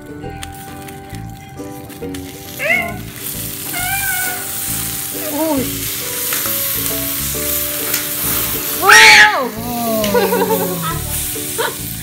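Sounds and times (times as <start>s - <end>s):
butter and squid sizzling: 0.2s - 12.0s.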